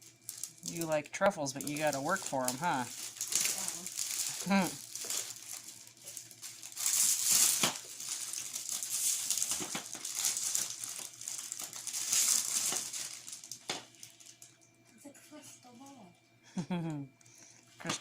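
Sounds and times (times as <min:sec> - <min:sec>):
plastic ball crinkling and rustling: 0:00.0 - 0:14.6.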